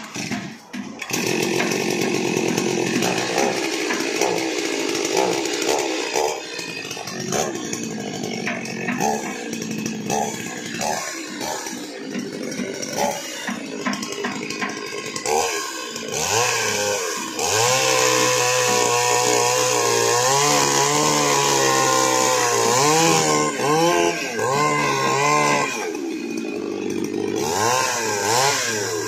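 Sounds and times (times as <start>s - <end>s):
chainsaw running: 0.0s - 29.0s.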